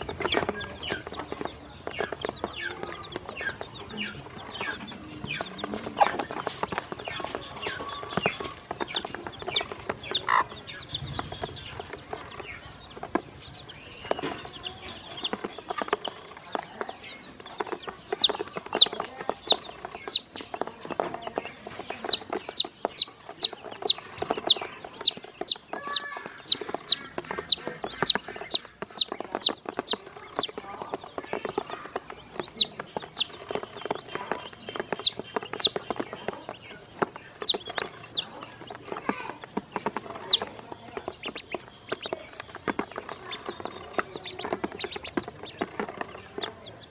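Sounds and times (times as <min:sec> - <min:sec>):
beaks pecking on plastic: 0:00.0 - 0:46.9
chicks peeping: 0:00.0 - 0:46.9.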